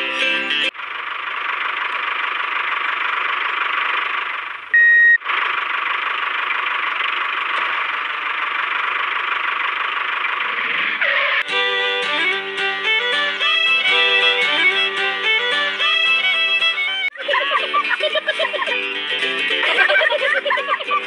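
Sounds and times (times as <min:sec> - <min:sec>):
toy tractor electronic engine sound: 0:00.0 - 0:17.5.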